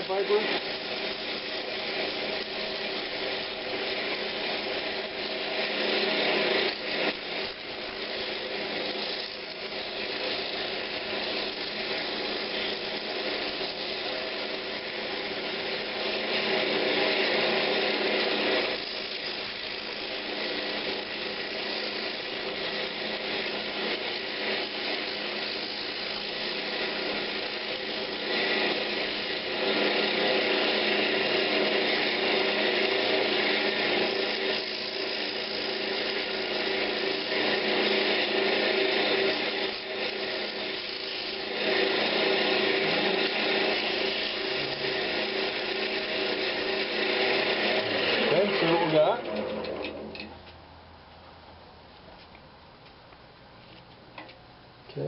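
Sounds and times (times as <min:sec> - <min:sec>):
sandpaper rasping on spinning wood: 0:00.0 - 0:49.4
wood lathe motor hum: 0:00.0 - 0:50.6.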